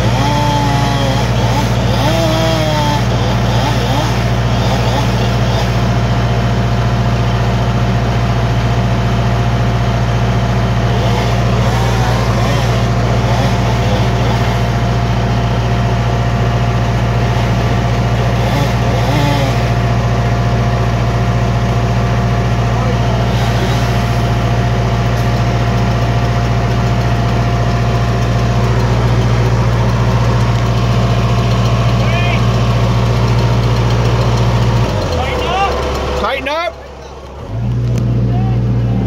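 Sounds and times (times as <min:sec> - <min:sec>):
engine droning steadily: 0:00.0 - 0:39.0.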